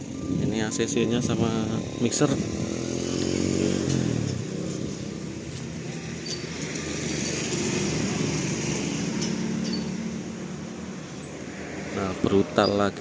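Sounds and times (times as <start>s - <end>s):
vehicle engine running: 0.0s - 11.6s
street noise: 0.0s - 13.0s.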